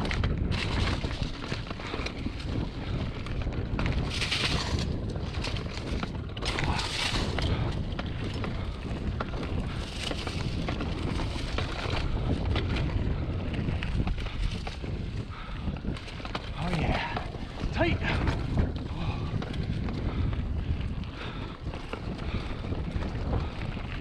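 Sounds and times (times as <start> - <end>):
bike rattling over bumps: 0.0 - 24.0
tyre noise: 0.0 - 24.0
wind buffeting microphone: 0.0 - 24.0.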